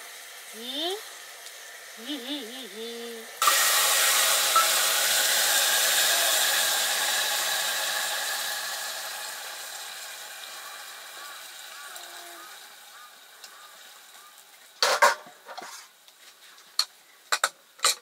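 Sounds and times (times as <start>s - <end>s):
hot pan hissing and sizzling: 0.0s - 16.2s.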